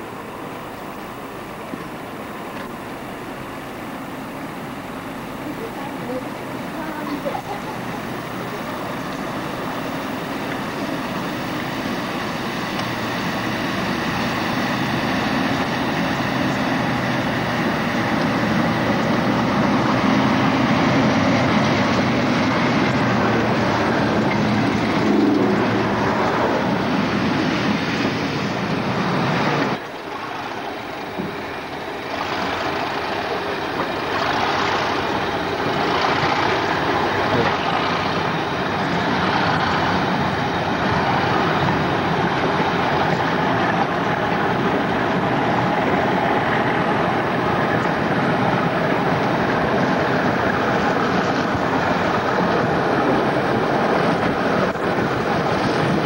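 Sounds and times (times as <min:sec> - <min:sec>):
diesel locomotive engines: 0:00.0 - 0:56.0
train coaches rumbling past: 0:00.0 - 0:56.0.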